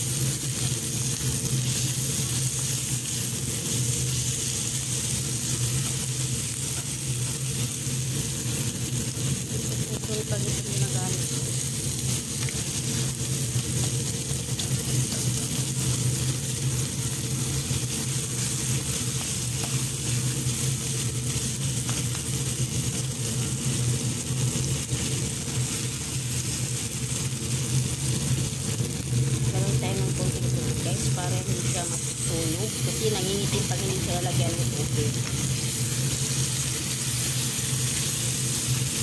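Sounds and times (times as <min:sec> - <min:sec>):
food sizzling in a wok: 0:00.0 - 0:39.0.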